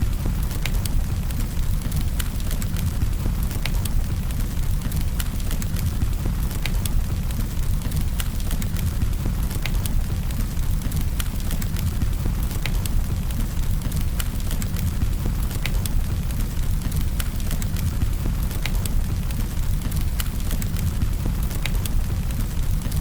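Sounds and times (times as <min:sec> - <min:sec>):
burning wood crackling: 0:00.0 - 0:23.0
low rumble of flames: 0:00.0 - 0:23.0.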